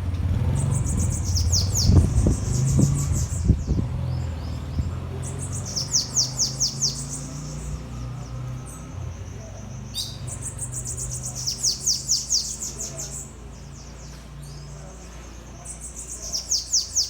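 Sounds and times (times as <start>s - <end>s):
bird singing high fast song: 0.2s - 17.0s.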